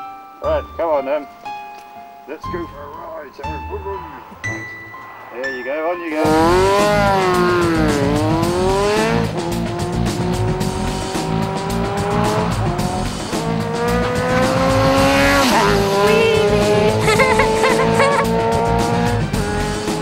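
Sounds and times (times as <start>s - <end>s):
music with low beat: 2.5s - 20.0s
racing engine accelerating: 3.5s - 20.0s.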